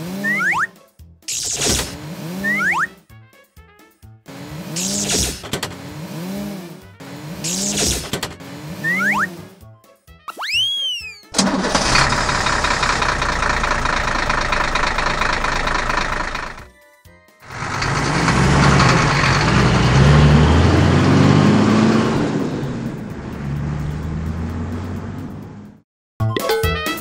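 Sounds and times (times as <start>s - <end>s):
truck engine idling and revving: 0.0s - 0.7s, 1.4s - 3.0s, 4.2s - 9.8s, 11.3s - 16.7s, 17.4s - 25.8s.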